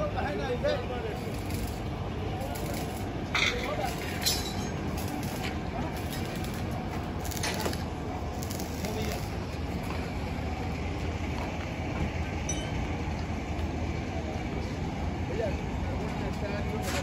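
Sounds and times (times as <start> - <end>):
low roadside rumble: 0.0 - 17.0.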